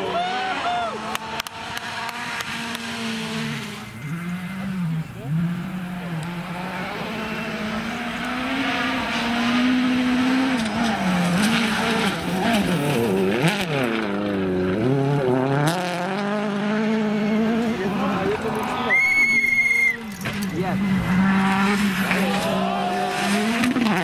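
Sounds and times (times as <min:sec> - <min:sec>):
rally car engine at full speed: 0:00.0 - 0:24.0.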